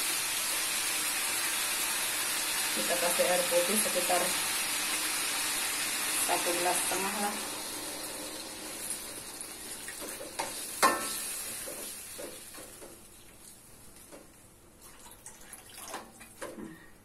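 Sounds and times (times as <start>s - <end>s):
wok sizzling: 0.0s - 13.9s.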